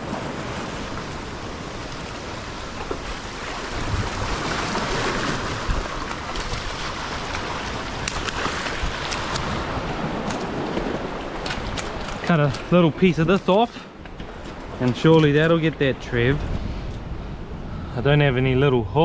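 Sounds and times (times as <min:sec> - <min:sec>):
sea surf washing: 0:00.0 - 0:19.0.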